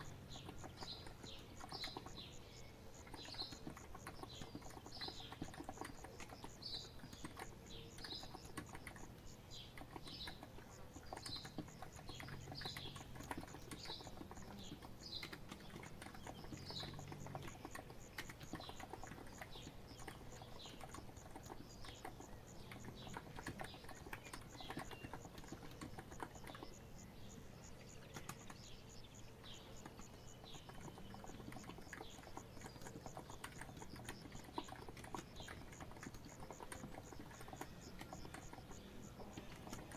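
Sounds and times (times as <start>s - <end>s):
bird chirping: 0.0s - 39.9s
keyboard typing: 0.0s - 39.9s.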